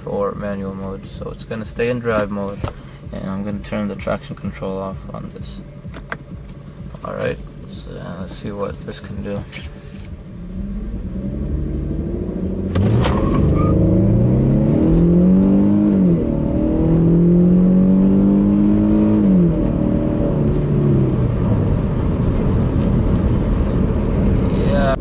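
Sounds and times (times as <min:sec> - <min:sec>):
car engine accelerating: 0:01.1 - 0:25.0.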